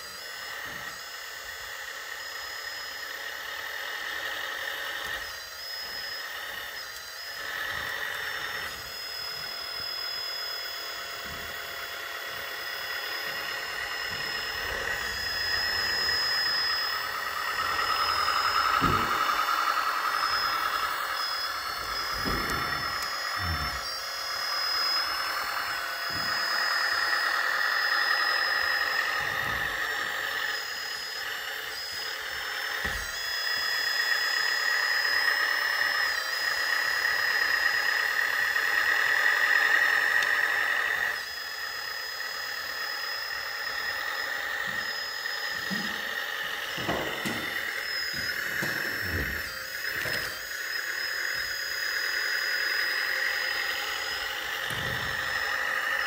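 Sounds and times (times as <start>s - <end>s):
hydraulic pump whining: 0.0s - 56.0s.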